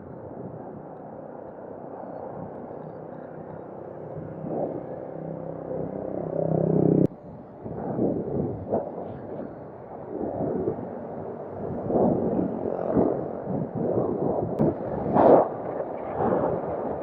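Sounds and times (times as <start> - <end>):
vehicle engine drone: 0.1 - 15.7.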